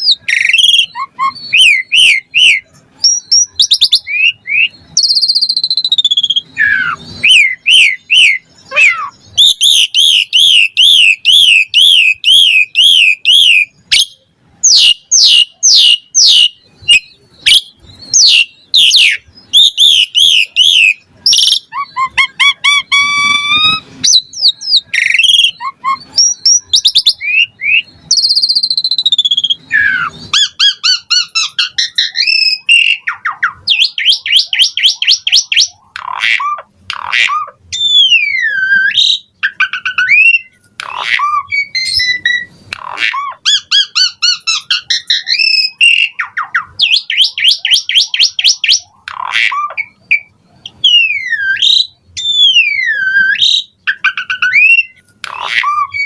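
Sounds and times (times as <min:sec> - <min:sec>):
starling singing varied song: 0:00.0 - 0:56.0.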